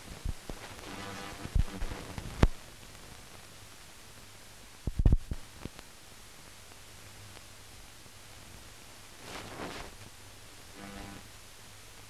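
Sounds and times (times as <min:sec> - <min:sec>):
film transfer hiss: 0:00.0 - 0:12.0.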